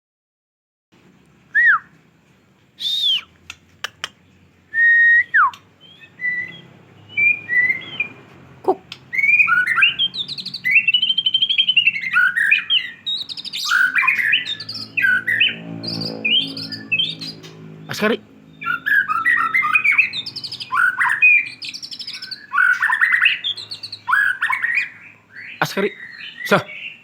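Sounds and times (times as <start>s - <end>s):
bird whistling and trilling: 1.5s - 2.0s, 2.8s - 3.4s, 4.7s - 8.3s, 8.9s - 17.7s, 18.5s - 27.0s.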